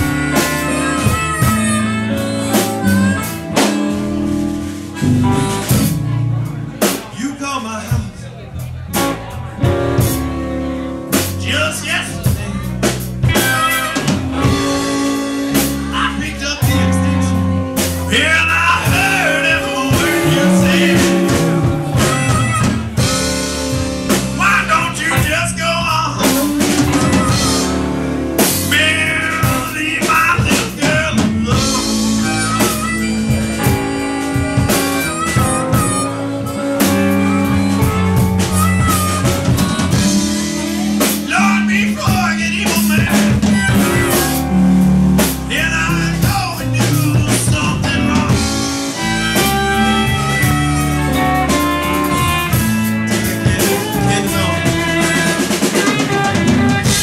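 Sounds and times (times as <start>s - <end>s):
blues harmonica: 0.0s - 57.0s
electric blues band playing: 0.0s - 57.0s.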